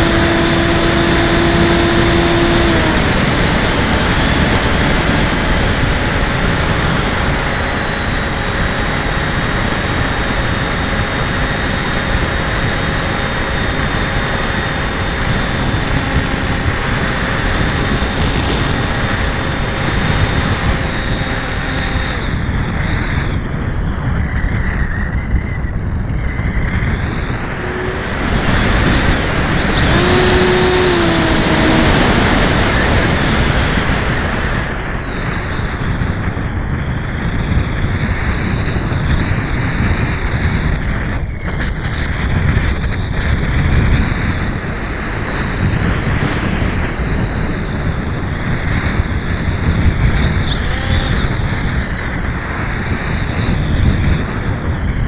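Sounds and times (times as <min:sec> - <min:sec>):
model plane motor whine: 0:00.0 - 0:55.0
wind buffeting microphone: 0:00.0 - 0:55.0.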